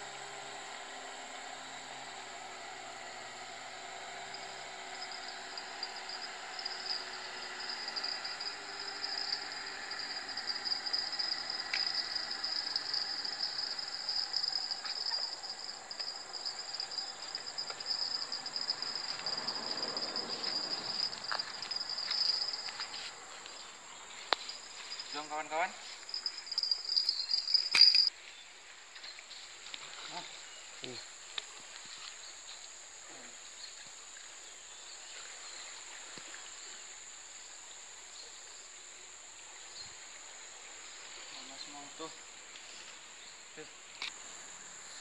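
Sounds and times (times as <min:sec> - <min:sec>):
insects chirring: 0:00.0 - 0:28.4, 0:29.0 - 0:45.0.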